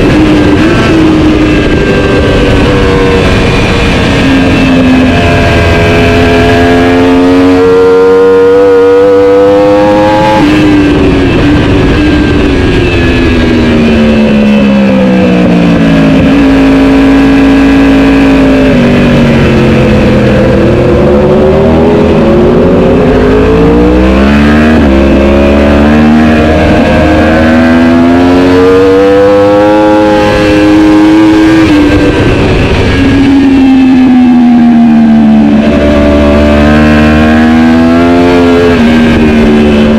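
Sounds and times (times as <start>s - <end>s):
superbike engine revving: 0.0s - 39.9s.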